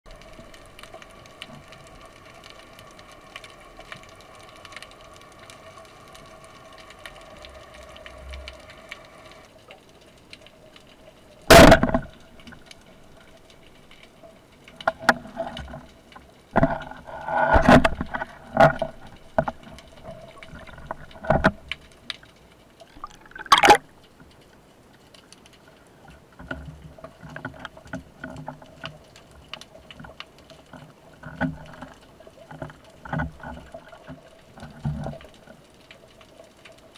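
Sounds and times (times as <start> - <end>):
steady underwater hum: 0.1 - 36.9.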